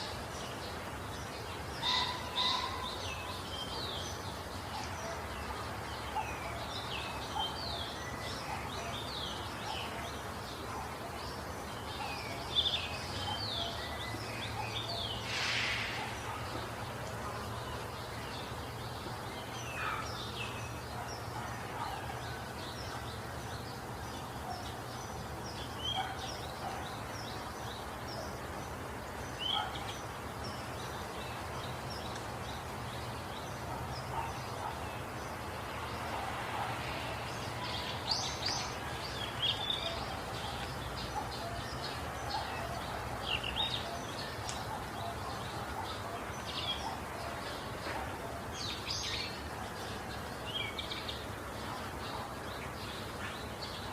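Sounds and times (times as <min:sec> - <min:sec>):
small birds chirping: 0:00.0 - 0:53.9
steady background hiss: 0:00.0 - 0:53.9.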